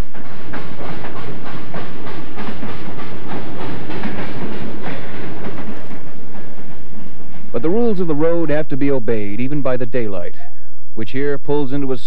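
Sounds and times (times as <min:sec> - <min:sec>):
train wheels clicking over rail joints: 0:00.0 - 0:10.2
steady train rumble: 0:00.0 - 0:12.0.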